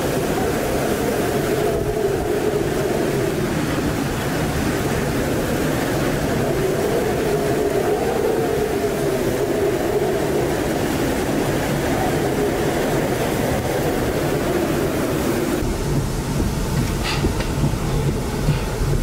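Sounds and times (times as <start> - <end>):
driving rain: 0.0 - 19.0
hurricane wind howling: 0.0 - 19.0.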